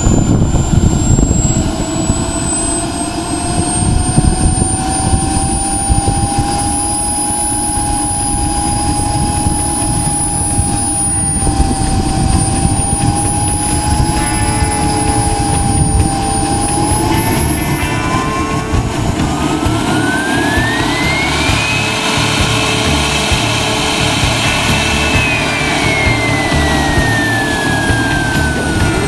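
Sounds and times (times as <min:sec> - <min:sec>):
jet turbine engine whine: 0:00.0 - 0:29.0
rough rushing roar: 0:00.0 - 0:29.0.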